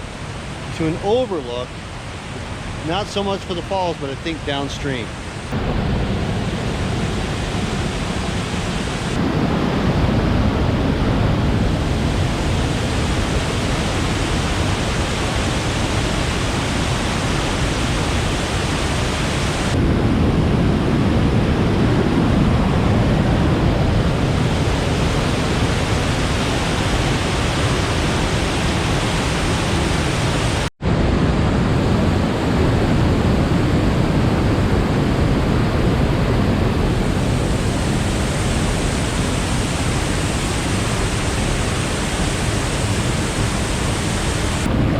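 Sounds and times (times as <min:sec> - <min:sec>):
waterfall rushing: 0:00.0 - 0:09.4, 0:11.7 - 0:19.8, 0:24.1 - 0:30.7, 0:31.9 - 0:44.7.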